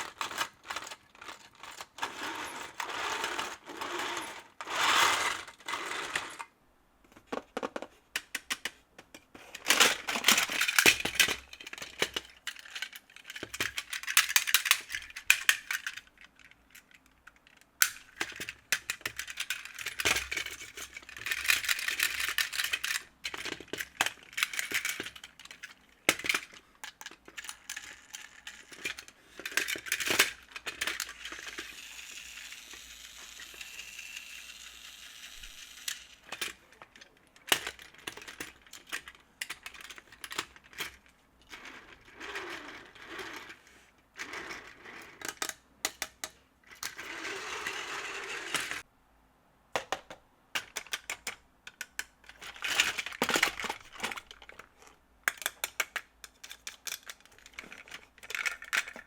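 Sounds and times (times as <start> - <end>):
plastic toy pieces clattering: 0.0 - 6.5, 7.2 - 8.8, 9.5 - 48.8, 49.8 - 59.0.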